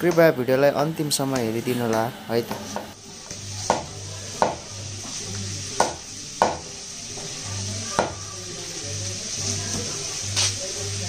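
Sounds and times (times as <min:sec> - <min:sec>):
chicken sizzling in a pan: 0:00.1 - 0:11.0.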